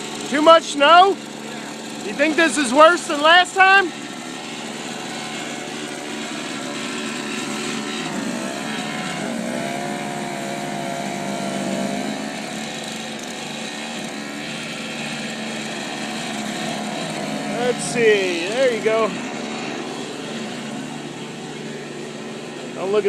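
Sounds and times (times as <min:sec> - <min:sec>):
snowblower engine running: 0:00.0 - 0:23.0.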